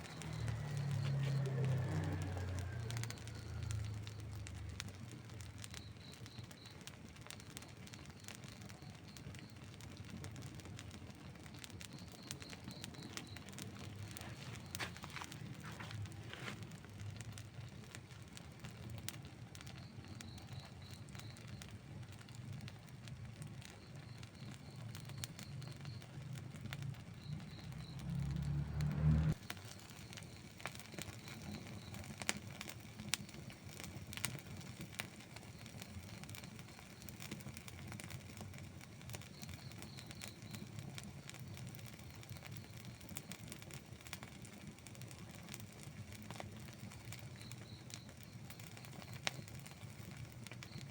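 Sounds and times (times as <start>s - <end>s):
campfire crackling and popping: 0.0s - 50.9s
low rush of flames: 0.0s - 50.9s.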